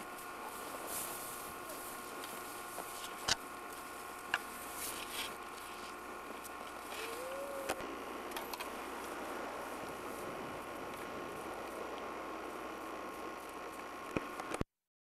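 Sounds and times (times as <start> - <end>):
recording hiss and hum: 0.0 - 14.7.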